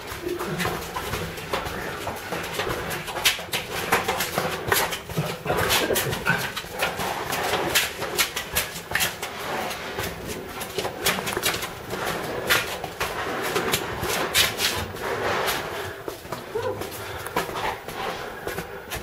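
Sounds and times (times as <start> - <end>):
people moving through tunnel: 0.0 - 19.0.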